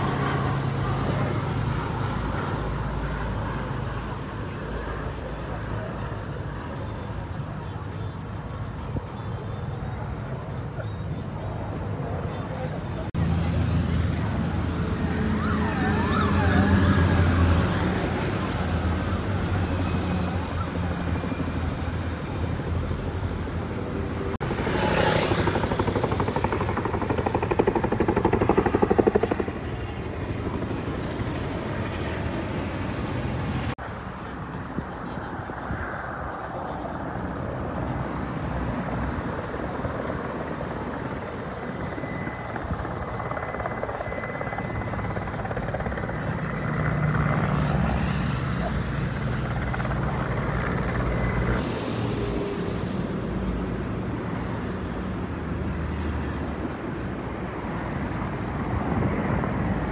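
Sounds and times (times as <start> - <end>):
distant helicopter rotors rumbling: 0.0 - 59.9.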